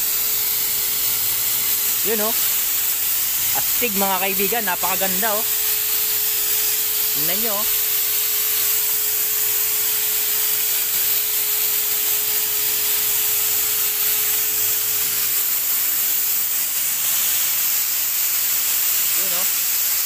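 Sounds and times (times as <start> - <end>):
paint sprayer hissing: 0.0 - 20.0.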